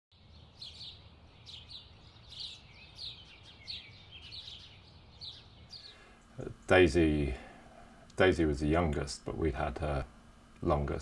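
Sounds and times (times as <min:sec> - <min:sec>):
small birds chirping: 0:00.1 - 0:09.3
low steady hum: 0:00.2 - 0:11.0.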